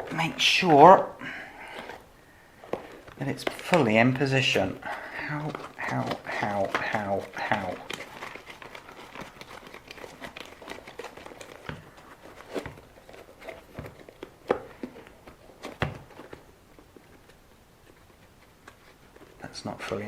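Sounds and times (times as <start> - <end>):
foam crinkling and rustling: 0.0 - 20.0.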